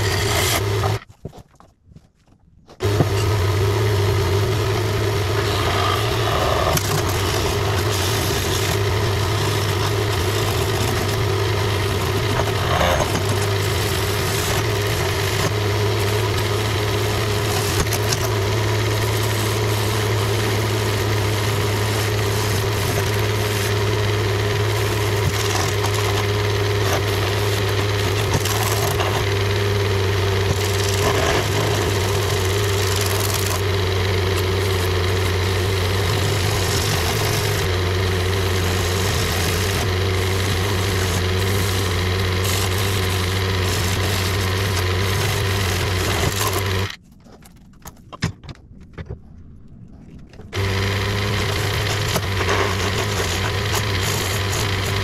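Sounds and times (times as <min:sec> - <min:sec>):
lathe motor humming: 0:00.0 - 0:01.0, 0:02.8 - 0:47.0, 0:50.6 - 0:55.0
chisel scraping spinning wood: 0:00.0 - 0:01.1, 0:02.8 - 0:47.0, 0:50.5 - 0:55.0.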